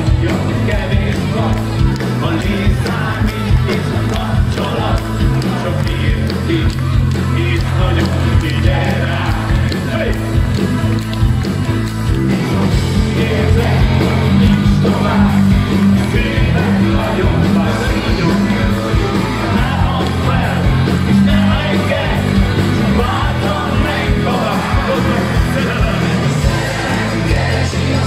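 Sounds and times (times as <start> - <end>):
man singing: 0.0 - 10.3, 12.9 - 28.0
live rock band playing: 0.0 - 28.0.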